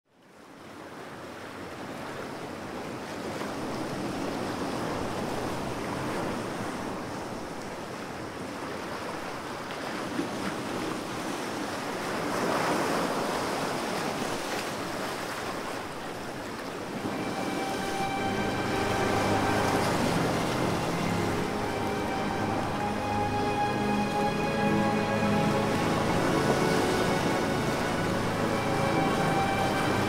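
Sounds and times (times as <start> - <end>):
waves washing in: 0.4 - 30.0.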